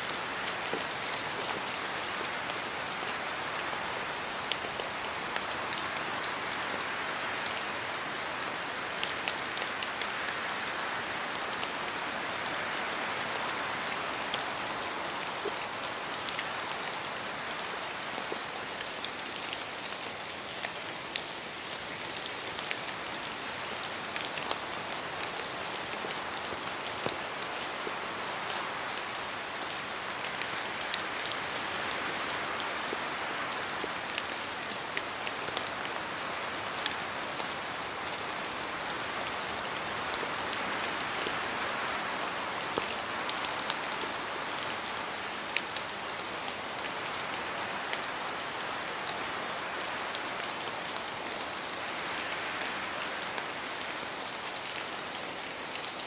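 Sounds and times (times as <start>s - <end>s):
steady rain in a forest: 0.0s - 56.0s.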